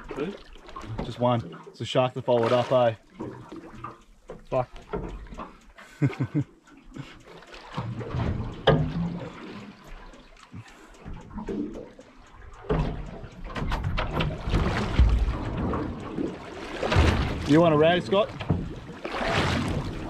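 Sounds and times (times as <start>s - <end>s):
water slapping boat hull: 0.0s - 20.0s.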